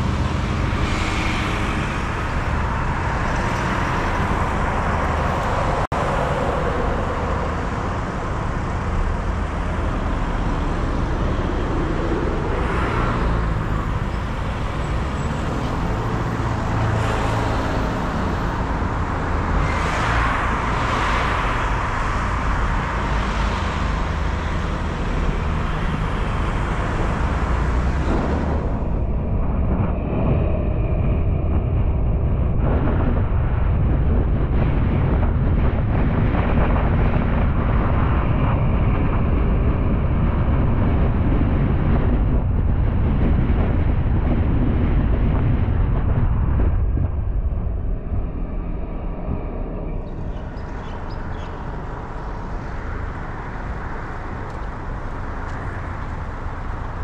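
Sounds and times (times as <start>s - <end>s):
car engine and tyre rumble: 0.0s - 57.0s
surrounding traffic: 0.0s - 57.0s.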